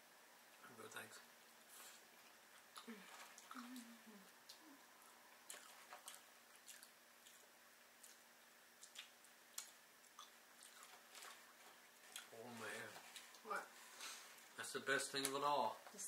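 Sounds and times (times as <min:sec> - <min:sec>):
people chewing food: 0:01.4 - 0:15.4.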